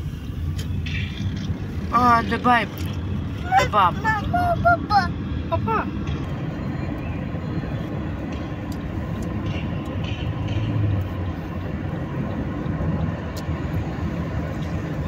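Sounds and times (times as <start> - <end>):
road and engine rumble in car: 0.0 - 15.0.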